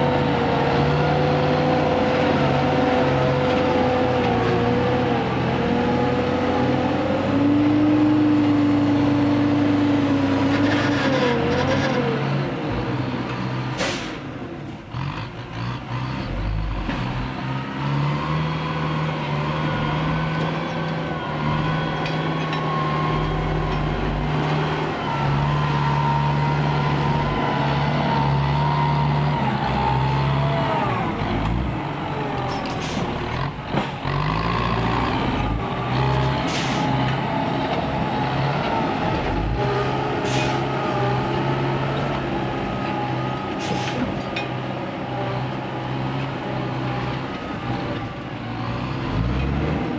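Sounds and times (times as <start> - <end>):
diesel truck engine droning: 0.0 - 49.9.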